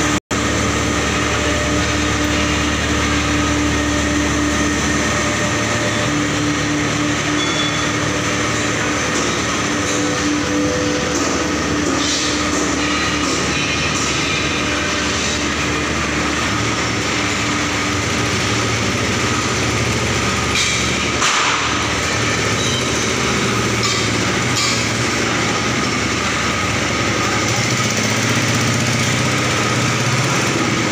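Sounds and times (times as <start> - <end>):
factory machinery hum and hiss: 0.0 - 30.9.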